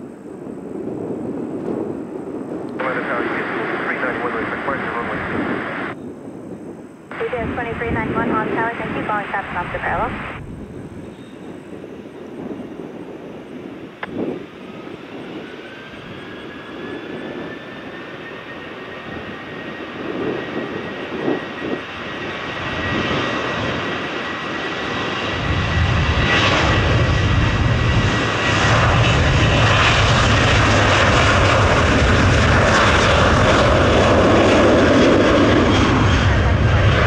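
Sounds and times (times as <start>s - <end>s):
jet engines rumbling: 0.0s - 37.0s
jet engines whining: 0.0s - 37.0s.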